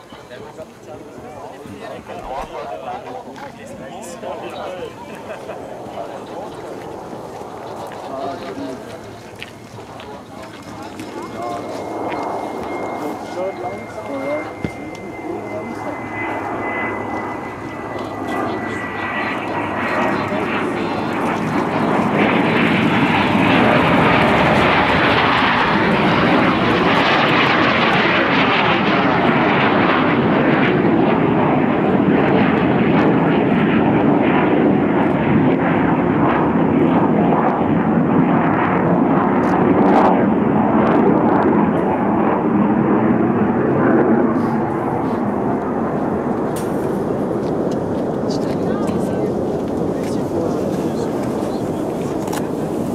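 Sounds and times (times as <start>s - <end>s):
jet engines roaring past: 0.0s - 52.9s.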